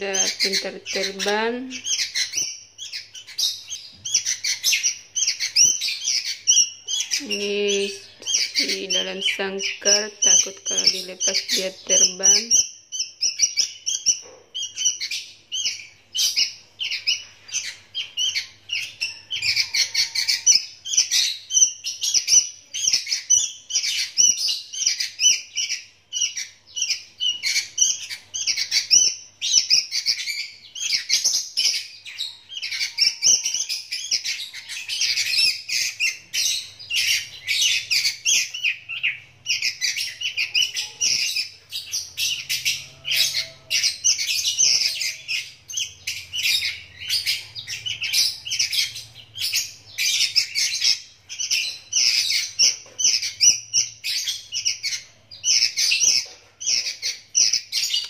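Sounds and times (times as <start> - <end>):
young birds chirping begging calls: 0.0 - 58.0.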